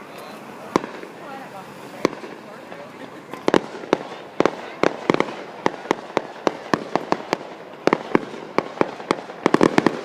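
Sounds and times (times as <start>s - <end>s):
fireworks exploding bangs: 0.6s - 10.0s.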